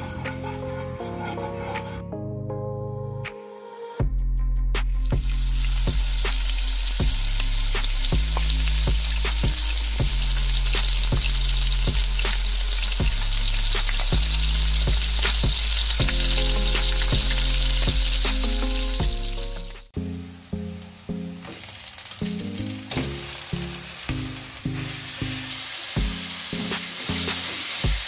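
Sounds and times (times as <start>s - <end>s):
onion sizzling in hot oil: 5.1s - 28.0s.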